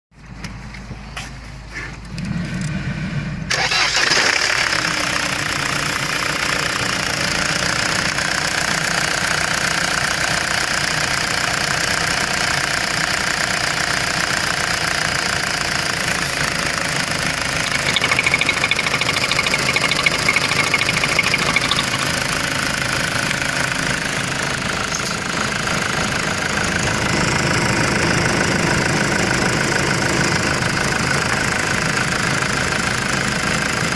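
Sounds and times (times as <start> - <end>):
diesel engine idling: 0.2 - 33.9
diesel engine cranking: 1.7 - 33.9.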